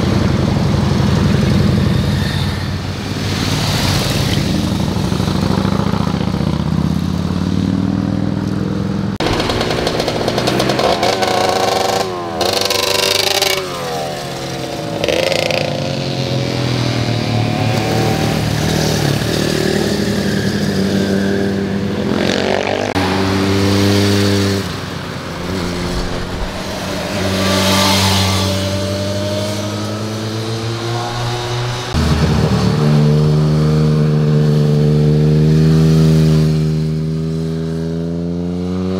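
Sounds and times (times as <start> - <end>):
motorcycles passing revving: 0.0 - 38.9.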